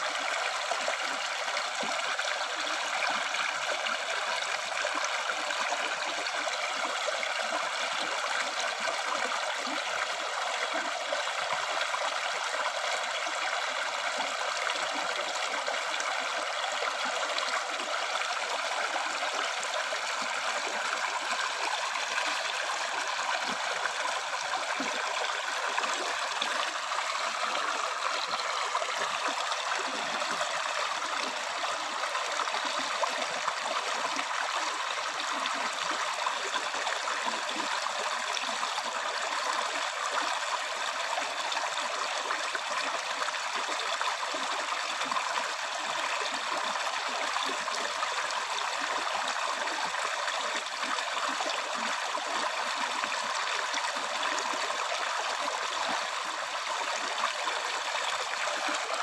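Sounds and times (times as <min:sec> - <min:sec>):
water flowing over rocks: 0:00.0 - 0:59.0.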